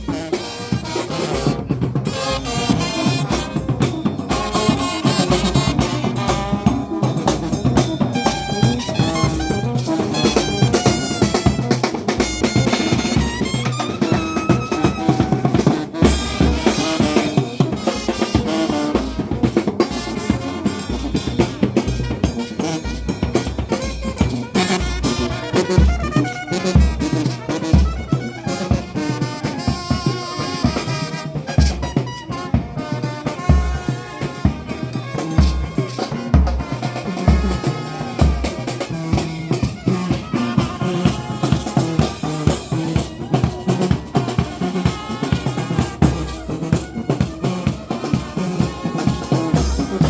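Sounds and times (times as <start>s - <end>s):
brass instruments playing: 0.0s - 50.0s
snare and bass drum beat: 0.0s - 50.0s.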